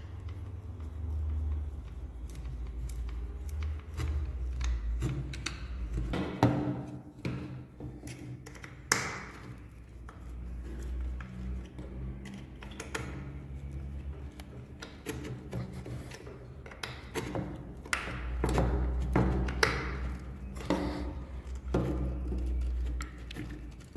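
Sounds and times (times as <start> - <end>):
wooden parts clicking and knocking: 0.0 - 23.9.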